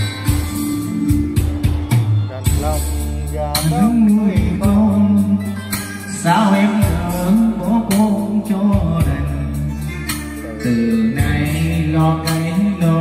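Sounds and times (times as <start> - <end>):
karaoke song over loudspeaker: 0.0 - 13.0.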